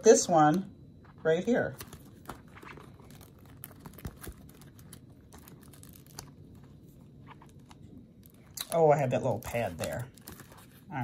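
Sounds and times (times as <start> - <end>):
hands handling planner pages: 1.0 - 10.9.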